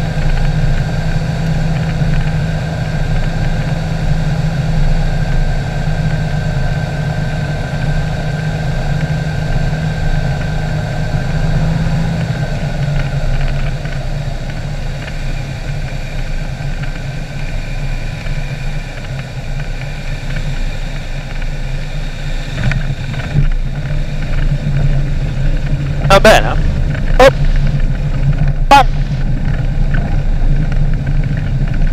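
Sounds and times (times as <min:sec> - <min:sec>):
aircraft piston engine hum: 0:00.0 - 0:31.9.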